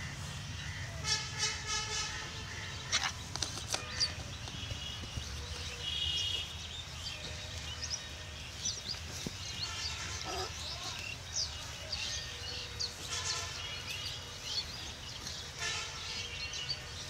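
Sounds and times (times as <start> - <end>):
bird chirps and calls: 2.0 - 17.0.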